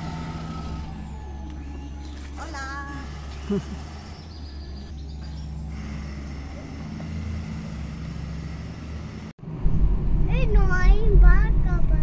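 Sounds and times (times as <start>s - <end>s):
car pulling away: 0.0s - 10.2s.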